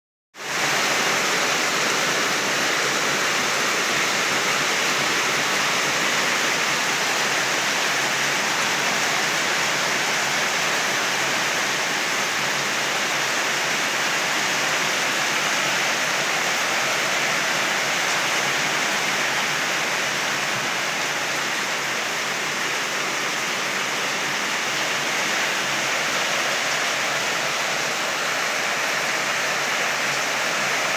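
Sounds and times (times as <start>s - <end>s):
torrential rain: 0.4s - 30.9s.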